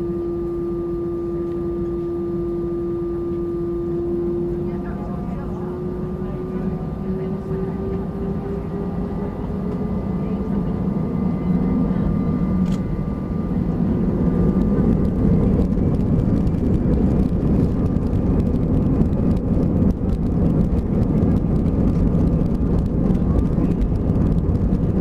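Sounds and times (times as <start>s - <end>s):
aircraft cabin engine rumble: 0.0s - 25.0s
steady engine tones: 0.0s - 25.0s.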